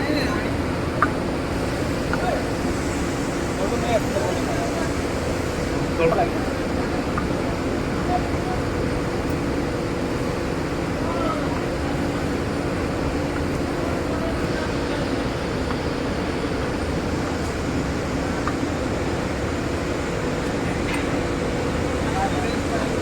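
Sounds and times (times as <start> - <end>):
industrial machinery humming: 0.0 - 23.0.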